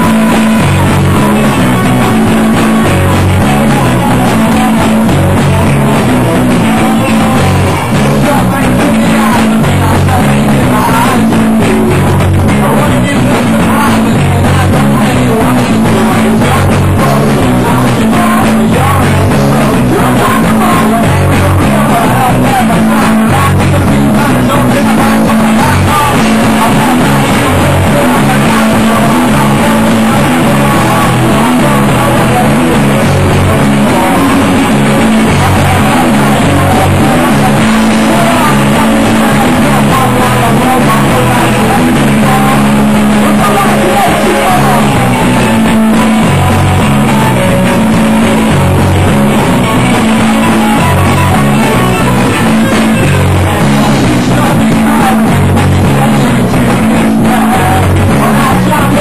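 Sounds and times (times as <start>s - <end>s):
bass guitar: 0.0s - 59.0s
drums: 0.0s - 59.0s
electric guitars: 0.0s - 59.0s
singer's vocals: 0.0s - 59.0s.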